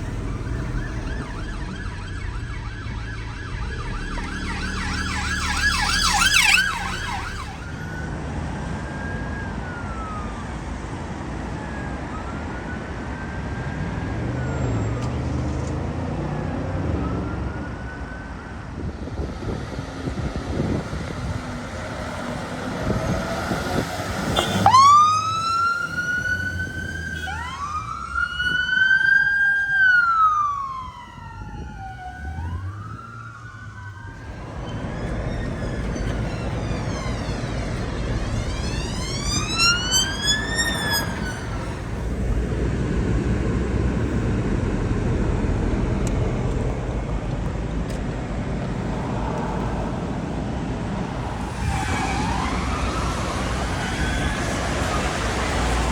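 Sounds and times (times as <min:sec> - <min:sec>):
faint siren rising and falling: 0:00.0 - 0:46.6, 0:48.5 - 0:55.9
emergency siren wailing: 0:00.0 - 0:47.4, 0:48.5 - 0:55.9
road traffic: 0:00.0 - 0:55.9.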